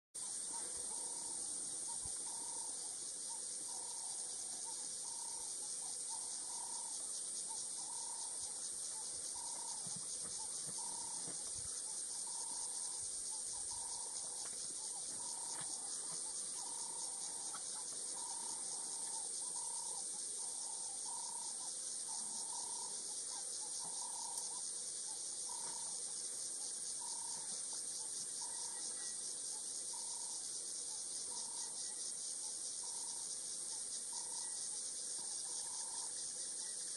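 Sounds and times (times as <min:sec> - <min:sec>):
insects chirring: 0:00.2 - 0:36.9.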